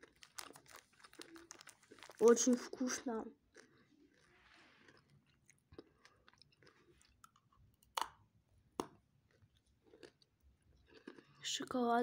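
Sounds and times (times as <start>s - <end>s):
faint chewing of candy: 0.0s - 12.0s.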